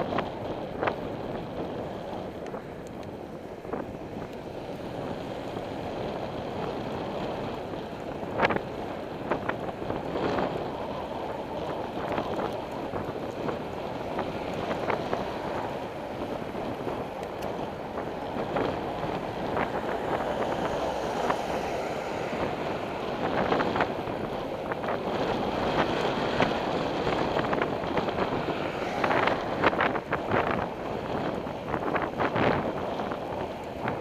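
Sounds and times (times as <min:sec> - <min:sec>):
tyres rumbling on road: 0:00.0 - 0:34.0
wind buffeting microphone: 0:00.0 - 0:34.0.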